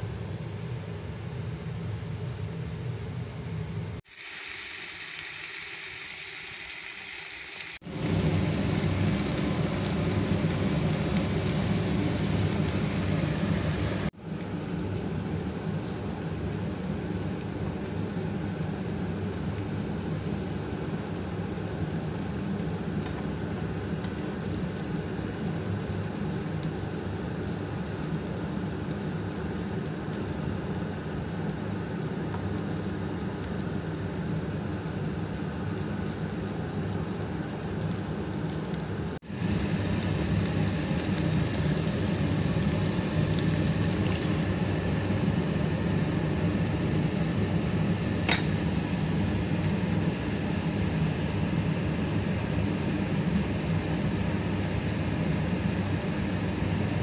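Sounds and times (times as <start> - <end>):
peppers sizzling in frying pan: 4.0 - 34.1, 34.9 - 57.0.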